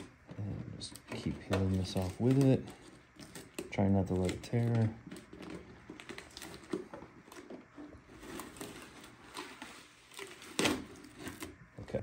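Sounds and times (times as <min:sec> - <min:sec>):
tape peeling and tearing: 0:01.5 - 0:11.6.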